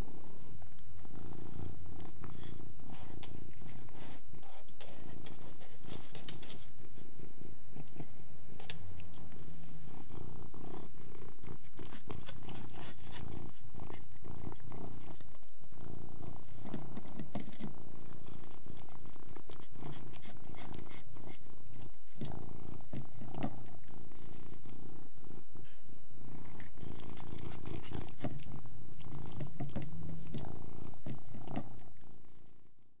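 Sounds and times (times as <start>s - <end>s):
cat purring: 0.0s - 33.0s.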